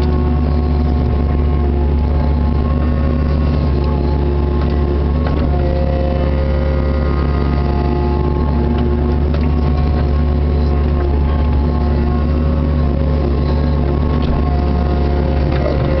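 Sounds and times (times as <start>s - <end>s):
excavator diesel engine running: 0.0s - 16.0s
hydraulic whine: 0.0s - 16.0s.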